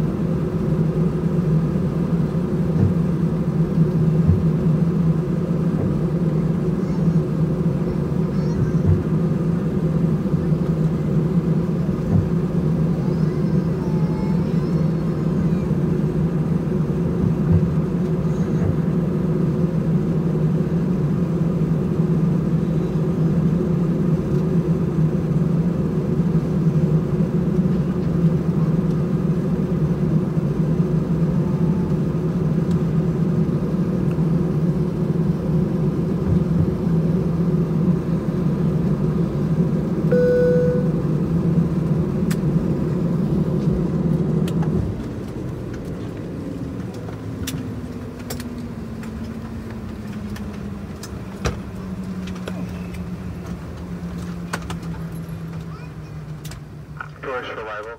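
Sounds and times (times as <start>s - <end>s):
jet engines humming in cabin: 0.0s - 57.9s.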